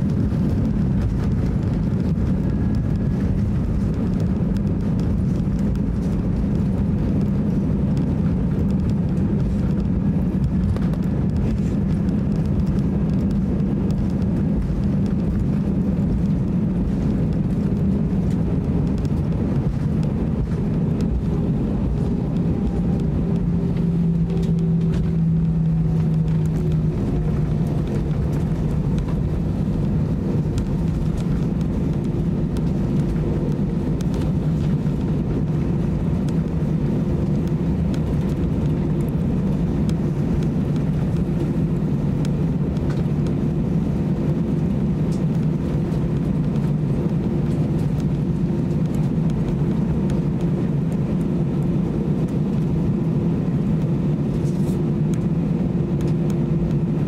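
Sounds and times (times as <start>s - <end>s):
jet engines droning: 0.0s - 57.0s
low wavering hum: 0.0s - 57.0s.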